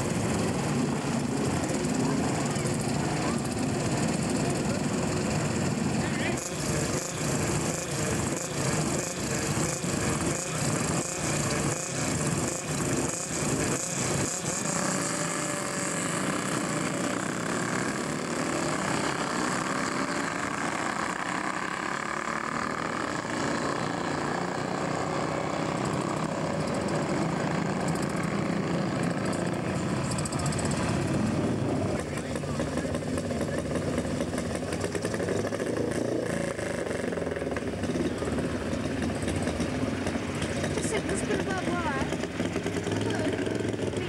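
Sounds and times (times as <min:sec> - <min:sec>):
motorcycles revving and accelerating: 0:00.0 - 0:44.0.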